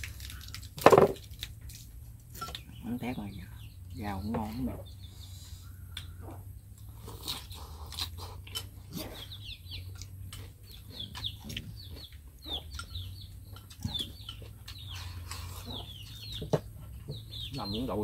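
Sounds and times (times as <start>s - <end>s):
chickens chirping: 2.0s - 18.0s.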